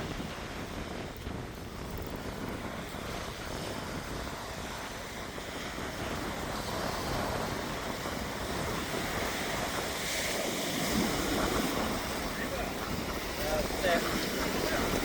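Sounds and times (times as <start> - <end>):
ocean surf washing onto beach: 0.0 - 15.0
wind on microphone: 0.0 - 15.0.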